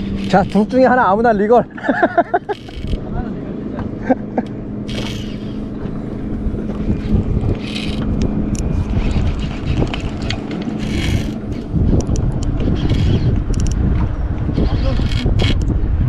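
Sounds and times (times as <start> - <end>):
boat motor hum: 0.0 - 16.0
wind buffeting microphone: 0.0 - 16.0.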